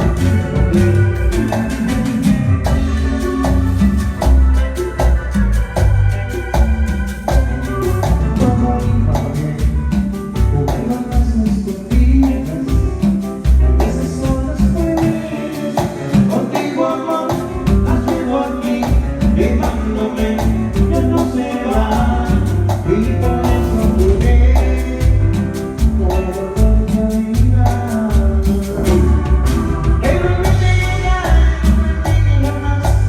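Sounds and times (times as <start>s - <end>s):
latin dance music with singing: 0.0s - 33.0s.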